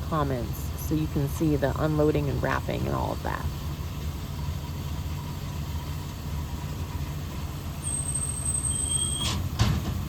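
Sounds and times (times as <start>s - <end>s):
engine idling rumble: 0.0s - 10.0s.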